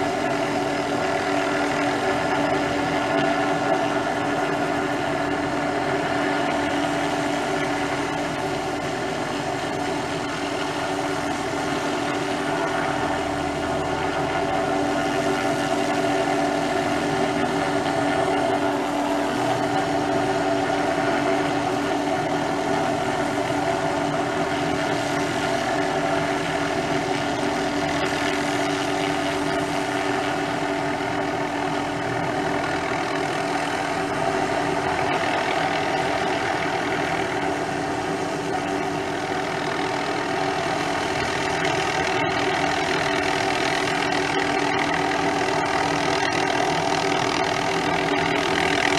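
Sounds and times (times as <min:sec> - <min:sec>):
helicopter turbine and rotor drone: 0:00.0 - 0:48.9.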